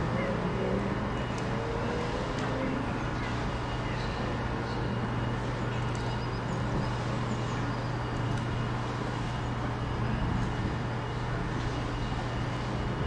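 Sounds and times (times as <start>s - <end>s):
constant low hum: 0.0s - 13.0s
distant vehicles rumbling: 0.0s - 13.0s.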